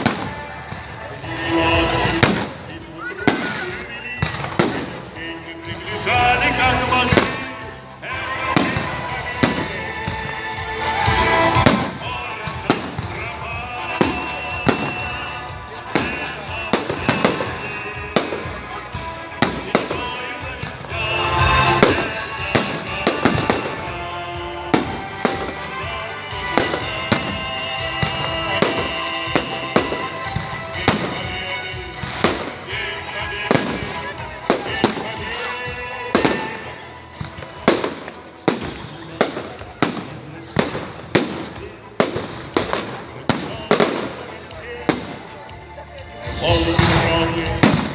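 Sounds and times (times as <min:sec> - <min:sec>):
music playing: 0:00.0 - 0:47.9.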